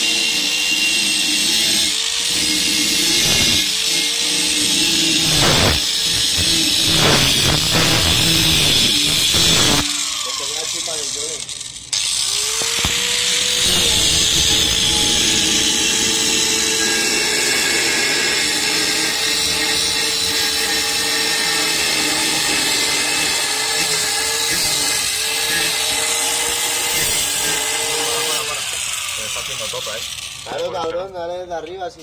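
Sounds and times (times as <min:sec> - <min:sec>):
angle grinder cutting metal: 0:00.0 - 0:31.1.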